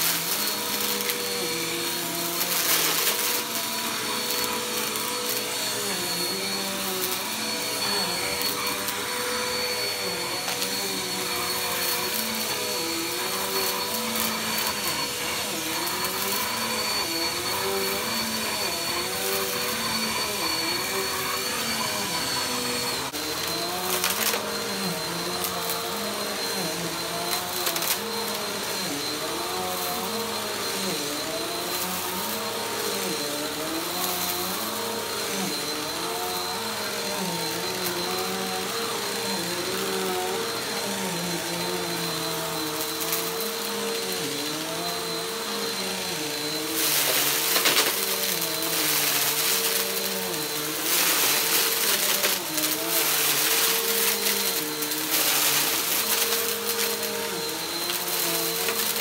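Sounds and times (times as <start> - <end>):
vacuum cleaner motor whining: 0.0 - 59.0.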